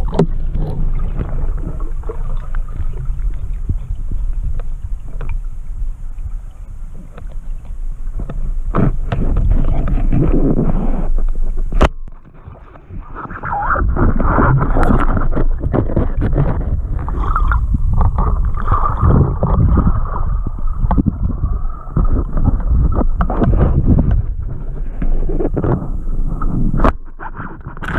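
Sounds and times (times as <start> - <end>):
knocks and gurgles: 0.0 - 27.9
water sloshing and bubbling: 0.0 - 27.9.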